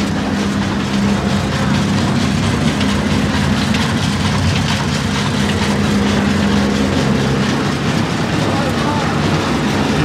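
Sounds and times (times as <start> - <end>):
diesel engine clattering: 0.0 - 10.0.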